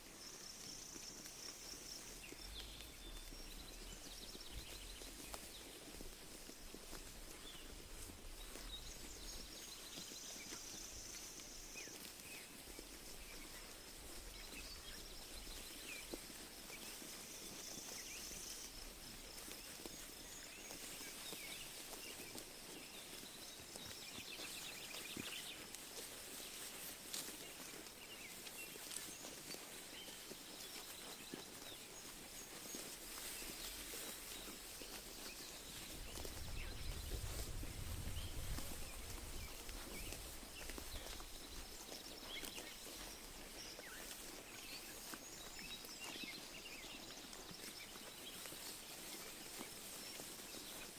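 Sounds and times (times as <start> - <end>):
sheep tearing and chewing grass: 0.0 - 50.9.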